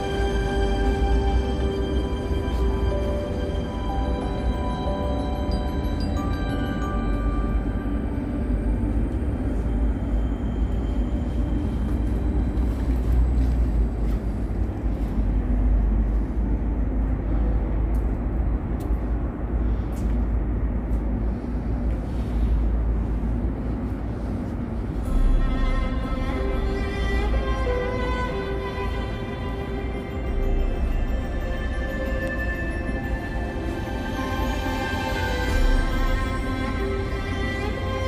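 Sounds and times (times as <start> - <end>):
low city rumble: 0.0 - 38.0.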